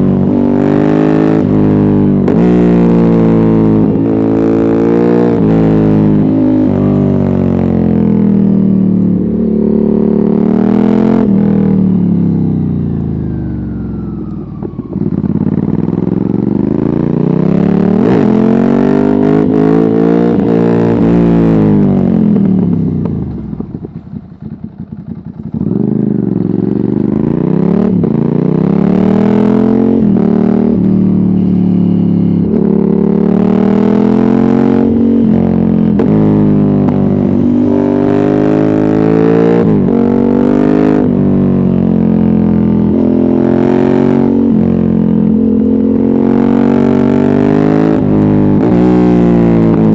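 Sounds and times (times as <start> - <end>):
motorcycle engine revving hard: 0.0 - 13.8, 14.9 - 23.8, 24.9 - 49.9.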